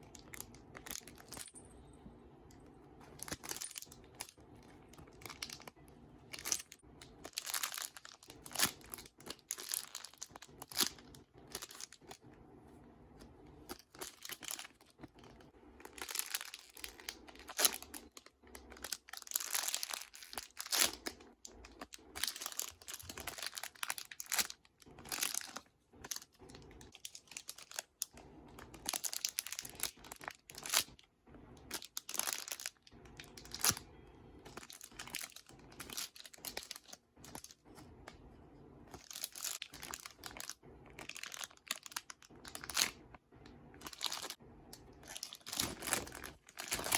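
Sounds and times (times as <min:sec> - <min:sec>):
plastic toys crinkling: 0:00.0 - 0:01.6, 0:03.1 - 0:12.3, 0:13.2 - 0:38.2, 0:38.9 - 0:46.9.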